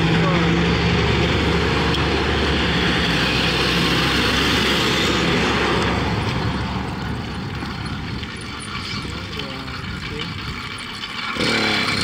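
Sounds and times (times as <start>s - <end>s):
two-stroke engine running: 0.0s - 12.0s
wind and road noise: 0.0s - 12.0s.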